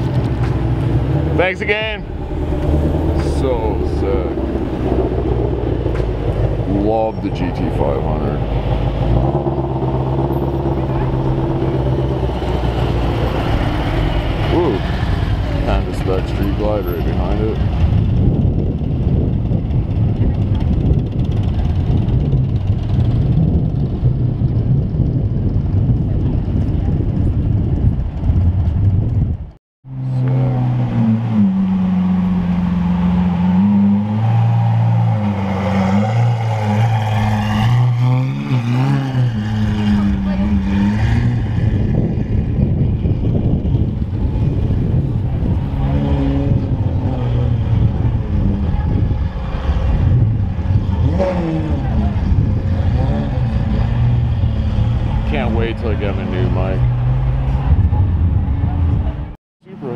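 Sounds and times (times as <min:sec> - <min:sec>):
car engine low drone: 0:00.0 - 0:59.9
street traffic: 0:00.0 - 0:59.9.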